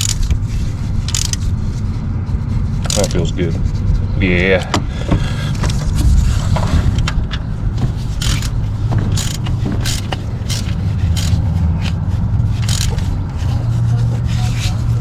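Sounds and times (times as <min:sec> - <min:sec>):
tool scrapes and clicks: 0:00.0 - 0:01.9, 0:02.5 - 0:04.7, 0:05.6 - 0:15.0
steady low hum: 0:00.0 - 0:15.0.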